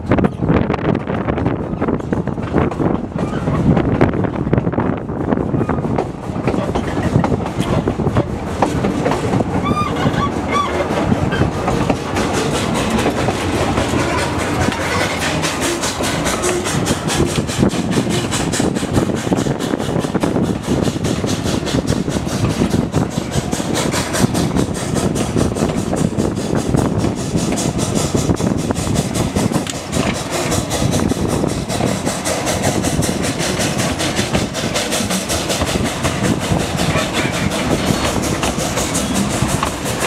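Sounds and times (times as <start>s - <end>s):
train wheels rattling on rails: 0.0s - 40.0s.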